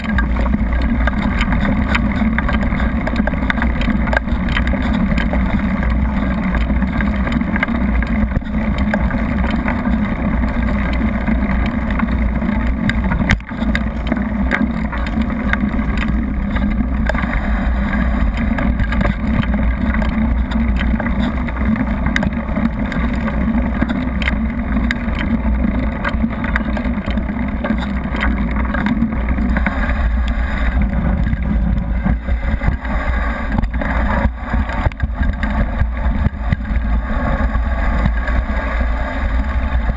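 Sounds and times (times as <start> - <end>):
bike rattles and clicks: 0.0 - 39.9
wind rush on camera: 0.0 - 39.9.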